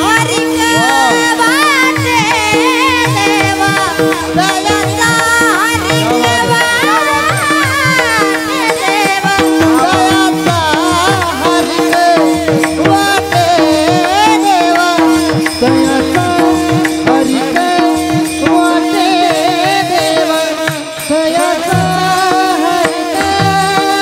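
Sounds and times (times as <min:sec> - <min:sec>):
man singing ornamented melody: 0:00.0 - 0:24.0.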